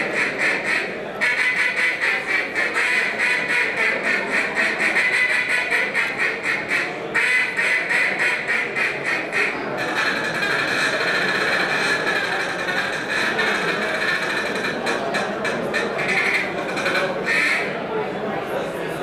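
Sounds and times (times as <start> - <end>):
duck call quacking: 0.0 - 17.8.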